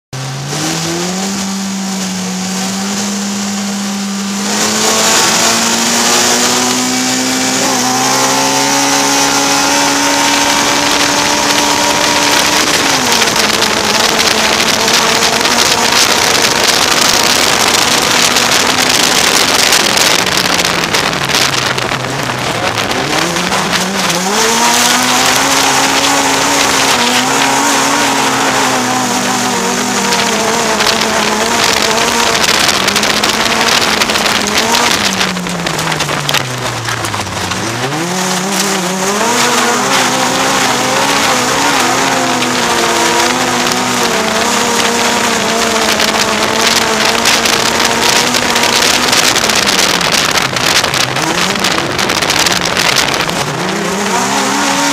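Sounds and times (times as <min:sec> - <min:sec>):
dirt track road noise: 0:00.0 - 0:54.9
race car engine revving: 0:00.1 - 0:54.9.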